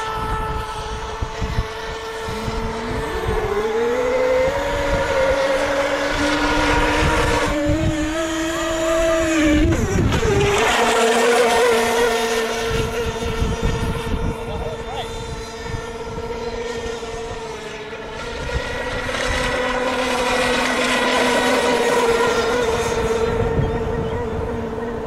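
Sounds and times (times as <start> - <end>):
model boat engines whining: 0.0 - 25.0.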